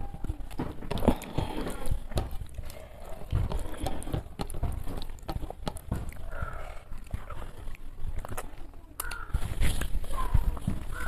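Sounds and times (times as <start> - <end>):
fingers squishing rice: 0.0 - 11.0
chewing with wet mouth clicks: 0.2 - 10.2.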